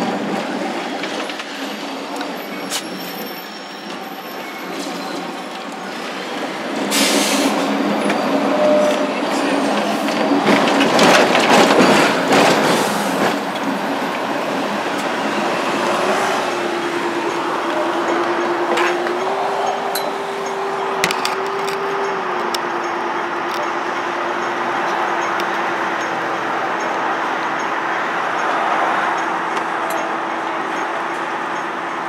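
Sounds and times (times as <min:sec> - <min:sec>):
tram wheels rumbling on rails: 0:00.0 - 0:32.0.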